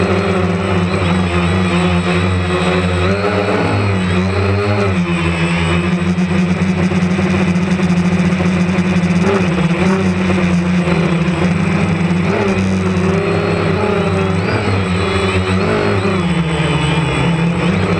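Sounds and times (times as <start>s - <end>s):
drone propellers buzzing: 0.0s - 17.9s.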